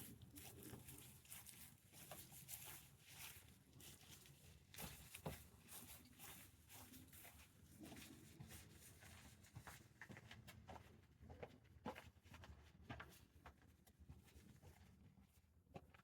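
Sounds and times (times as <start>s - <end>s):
faint small taps and scuffs: 0.0s - 16.0s.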